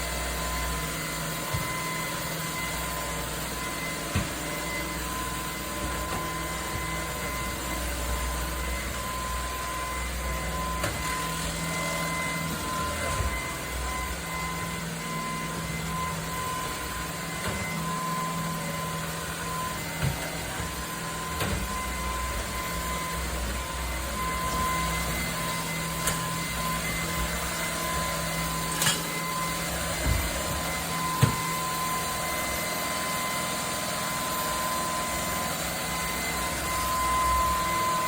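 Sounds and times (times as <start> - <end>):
stick vacuum running: 0.0 - 38.0.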